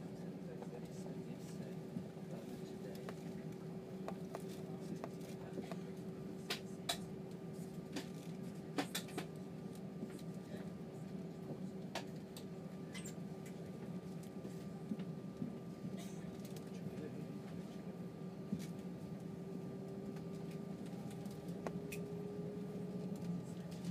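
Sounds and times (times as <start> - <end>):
aircraft cabin low hum: 0.0 - 23.9.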